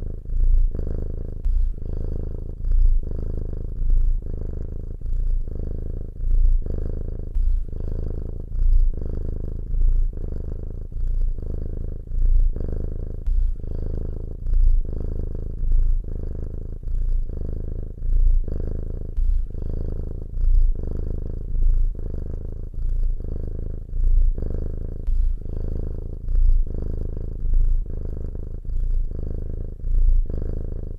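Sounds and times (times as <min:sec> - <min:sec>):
cat purring: 0:00.0 - 0:30.9.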